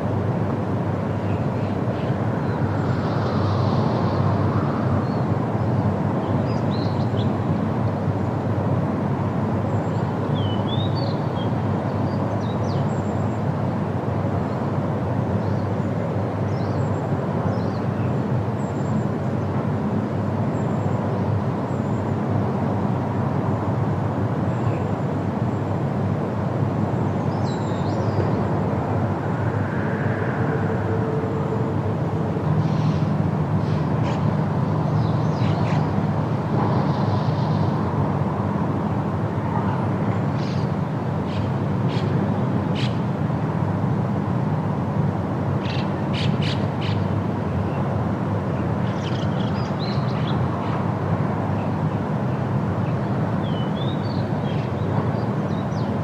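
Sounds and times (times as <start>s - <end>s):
wind through leafy trees: 0.0s - 56.0s.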